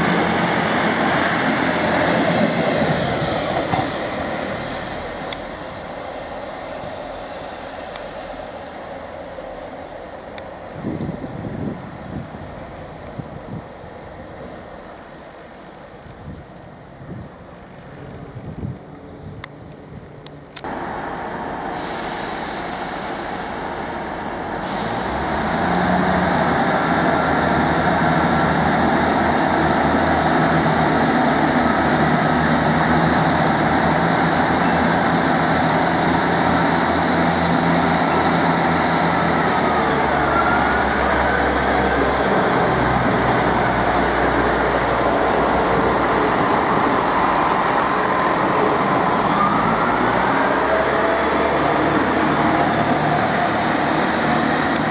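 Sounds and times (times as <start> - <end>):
train diesel engines droning: 0.0 - 54.9.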